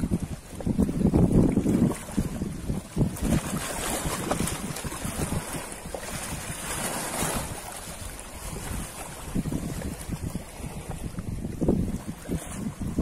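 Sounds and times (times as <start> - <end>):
waves washing on shore: 0.0 - 13.0
wind buffeting microphone: 0.0 - 13.0.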